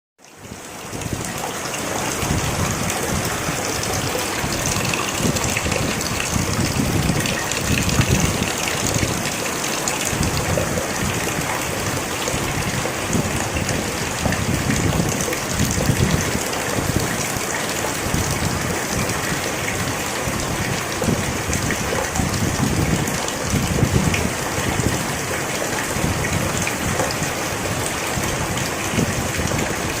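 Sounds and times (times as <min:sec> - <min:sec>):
rushing river water: 0:00.2 - 0:30.0
heavy rain hissing: 0:00.4 - 0:30.0.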